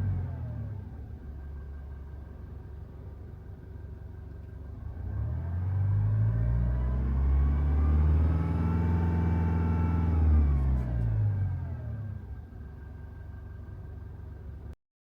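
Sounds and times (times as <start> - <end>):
van engine droning: 0.0 - 14.8.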